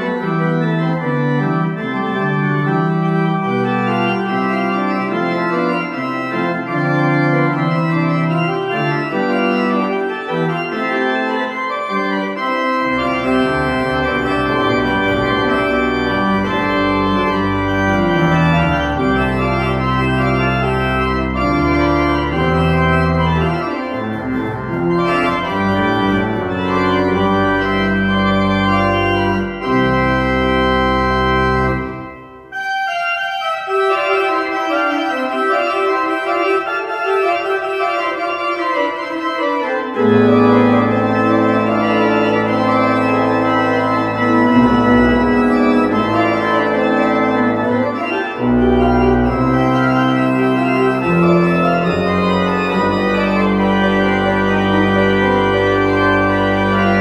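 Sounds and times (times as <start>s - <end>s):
church organ chords: 0.0s - 57.0s.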